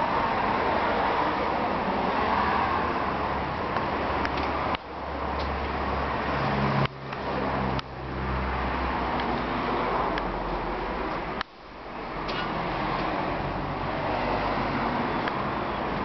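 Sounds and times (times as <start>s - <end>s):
traffic and street noise: 0.0s - 16.0s.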